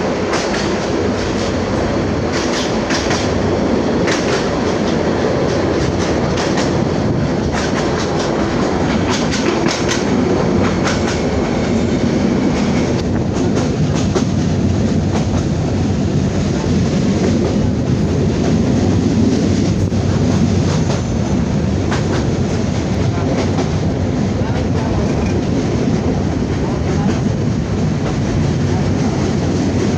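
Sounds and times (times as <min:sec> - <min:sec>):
train carriages rumbling: 0:00.0 - 0:29.9.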